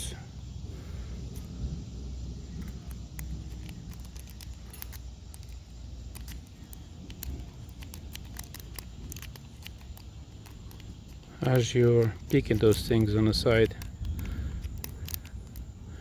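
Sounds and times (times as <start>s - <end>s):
lock picks clicking in padlock: 2.5s - 16.0s.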